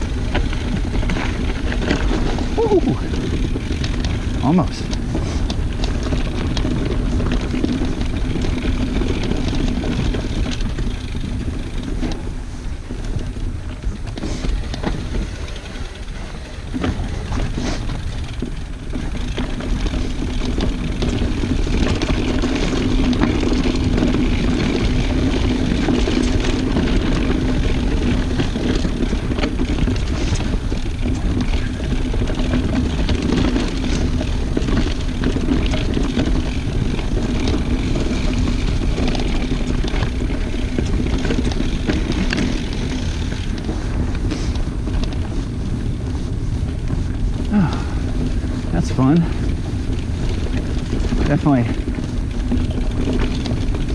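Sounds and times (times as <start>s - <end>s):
bike clattering over bumps: 0.0s - 53.9s
bike tyres rolling over leaves: 0.0s - 53.9s
wind rushing over microphone: 0.0s - 53.9s.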